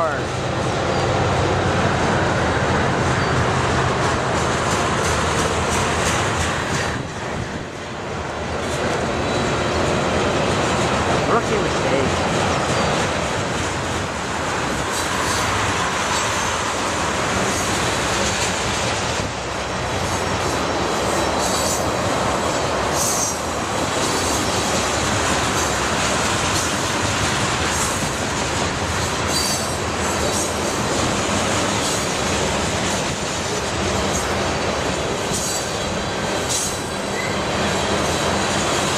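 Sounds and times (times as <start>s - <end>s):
train wheels clicking over rail joints: 2.8s - 38.9s.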